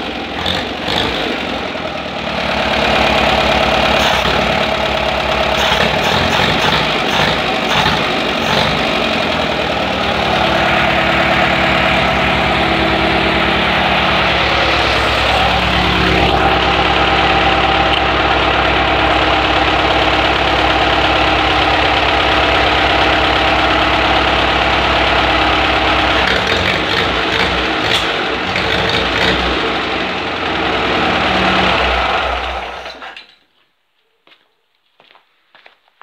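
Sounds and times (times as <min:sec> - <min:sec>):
car engine running: 0:00.0 - 0:32.8.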